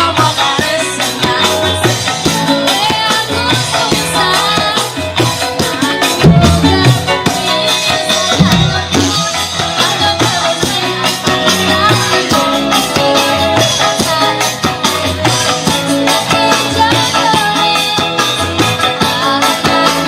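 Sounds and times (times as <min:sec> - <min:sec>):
music with drums and tambourine: 0:00.0 - 0:20.0
person singing: 0:00.0 - 0:20.0.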